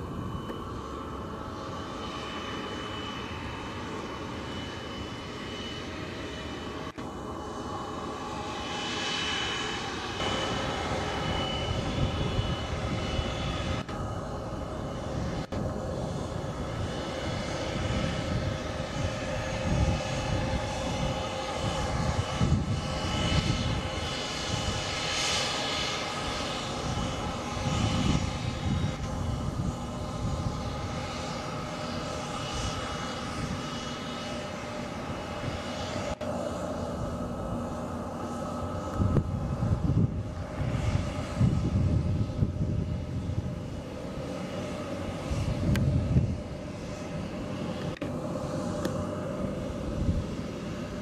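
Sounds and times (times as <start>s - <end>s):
jet engines whining: 0.0s - 51.0s.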